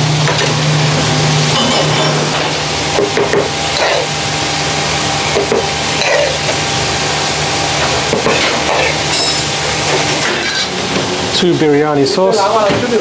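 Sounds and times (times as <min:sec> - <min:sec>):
kitchen hum and hiss: 0:00.0 - 0:13.0.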